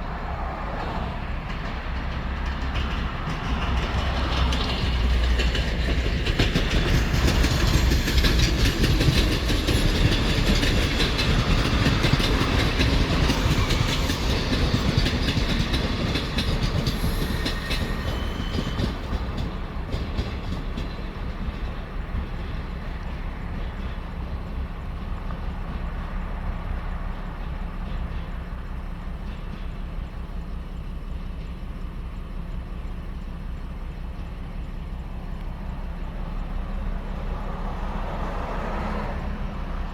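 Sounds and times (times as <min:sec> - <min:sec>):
train wheels clattering: 0:00.2 - 0:39.9.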